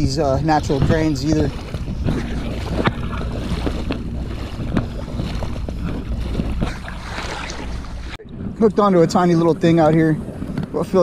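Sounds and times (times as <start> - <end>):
low wind rumble on microphone: 0.0 - 11.0.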